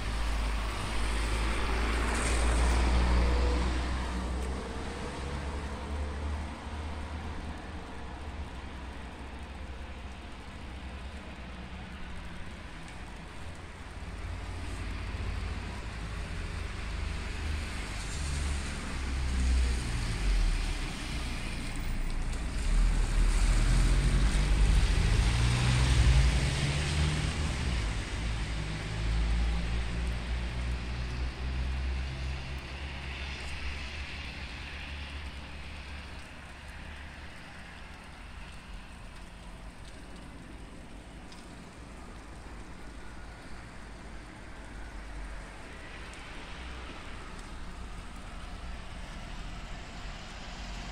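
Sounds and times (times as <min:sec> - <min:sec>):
car tyres hissing on wet road: 0:00.0 - 0:50.9.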